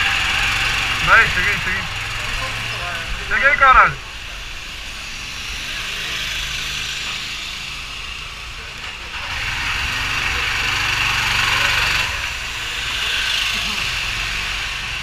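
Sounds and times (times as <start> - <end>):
go-kart engine idling: 0.0 - 15.0.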